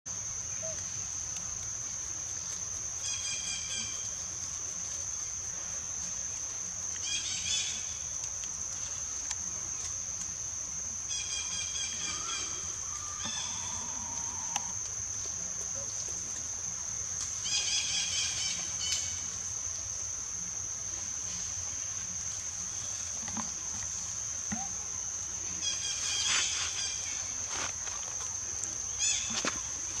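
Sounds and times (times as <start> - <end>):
insects droning: 0.1 - 30.0.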